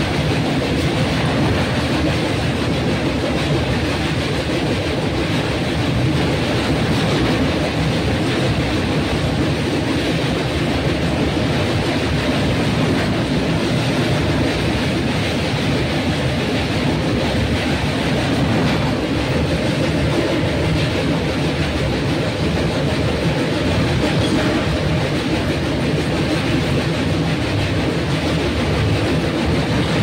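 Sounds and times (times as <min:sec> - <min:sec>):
train running on rails: 0:00.0 - 0:30.0.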